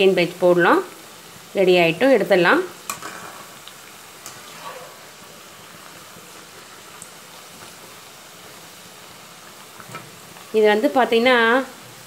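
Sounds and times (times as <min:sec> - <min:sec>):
oil sizzling deep-frying: 0:00.0 - 0:12.0.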